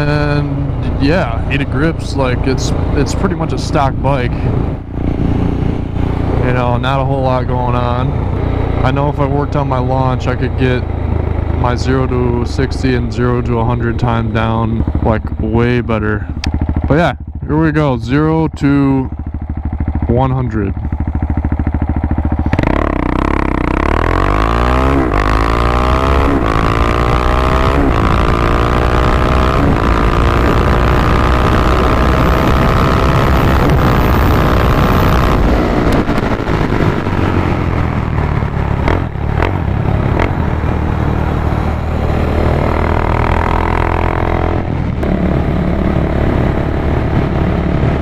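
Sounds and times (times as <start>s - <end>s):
motorcycle engine accelerating: 0.0s - 48.0s.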